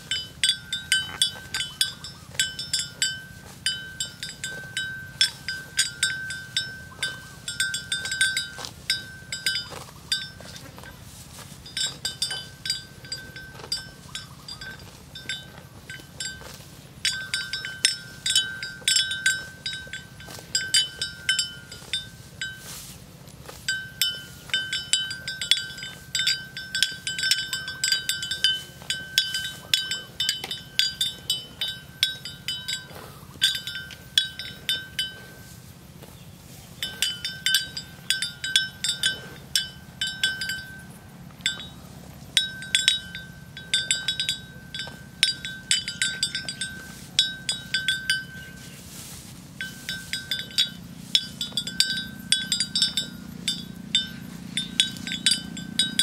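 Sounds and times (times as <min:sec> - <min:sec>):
small bell clinking: 0:00.0 - 0:22.8, 0:23.7 - 0:35.6, 0:36.7 - 0:56.0.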